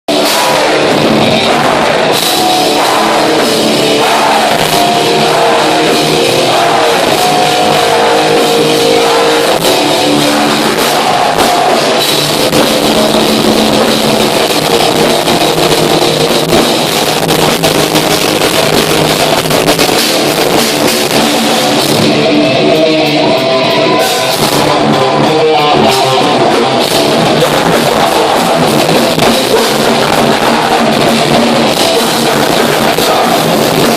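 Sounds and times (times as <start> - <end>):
distorted electric guitars: 0.0 - 33.9
drum kit: 0.1 - 33.9.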